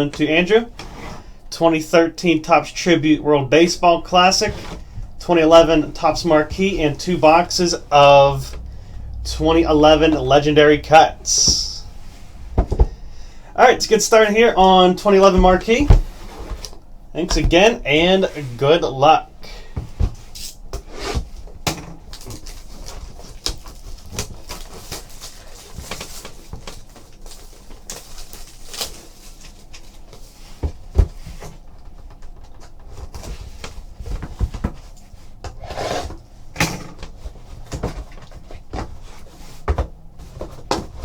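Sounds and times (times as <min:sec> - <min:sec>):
cardboard and packaging rustling: 0:04.0 - 0:18.8, 0:19.6 - 0:41.0.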